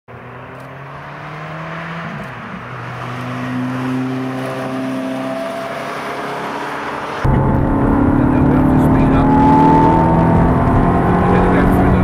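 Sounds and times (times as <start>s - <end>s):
sports car engine driving past: 0.1s - 12.0s.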